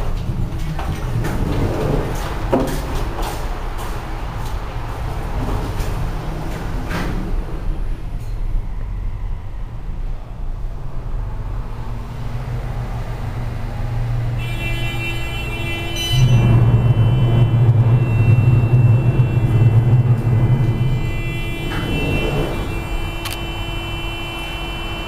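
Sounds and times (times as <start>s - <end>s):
elevator car rumbling: 0.0s - 25.0s.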